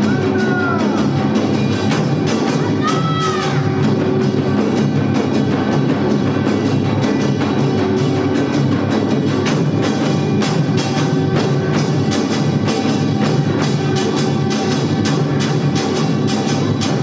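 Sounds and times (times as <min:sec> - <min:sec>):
drums playing fast rhythm: 0:00.0 - 0:17.0.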